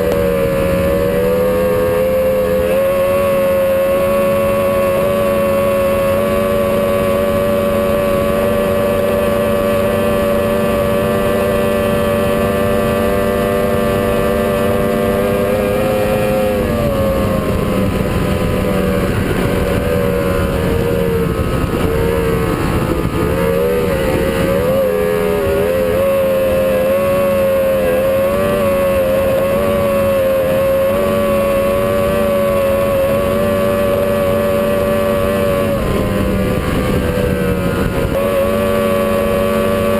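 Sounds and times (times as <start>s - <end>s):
boat engine running at speed: 0.0s - 39.9s.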